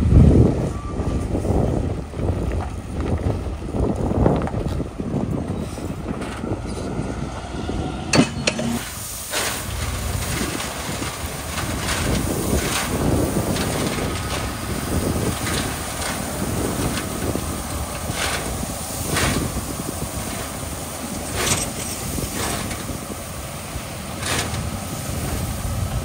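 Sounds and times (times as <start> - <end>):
heavy machinery engine: 0.0 - 26.0
knocks and clatter of gravel: 1.6 - 6.6, 8.2 - 26.0.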